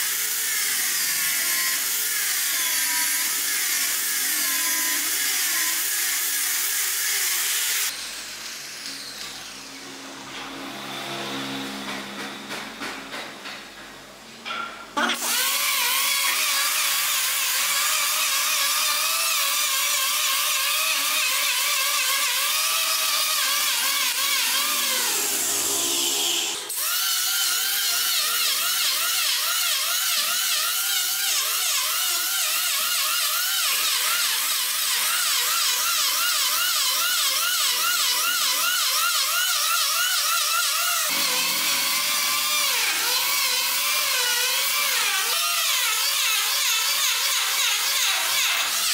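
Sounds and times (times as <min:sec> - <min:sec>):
electric planer shaving wood: 0:00.0 - 0:12.4, 0:15.0 - 0:48.9.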